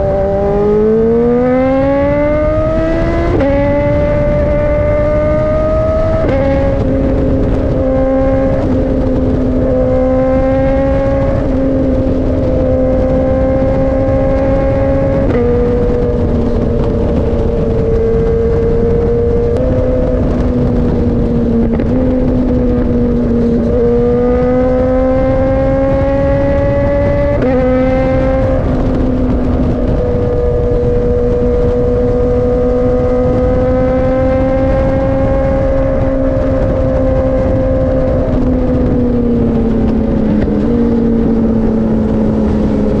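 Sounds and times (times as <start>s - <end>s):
constant low rush: 0.0s - 43.0s
motorcycle engine running: 0.0s - 43.0s.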